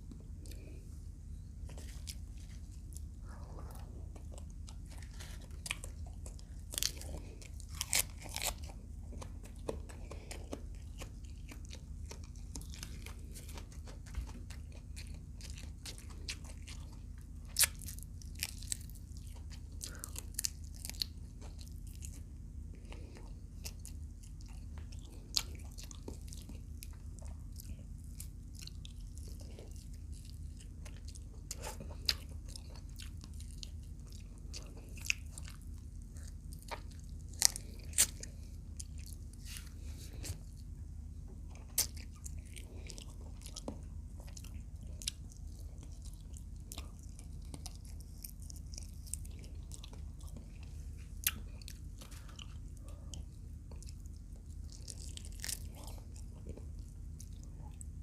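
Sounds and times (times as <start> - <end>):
chewing and crunching: 0.0 - 58.0
steady low hum: 0.0 - 58.0.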